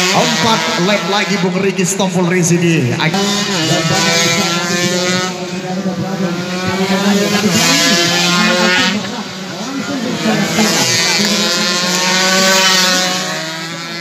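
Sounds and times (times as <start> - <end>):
racing motorcycles passing at high revs: 0.0 - 14.0.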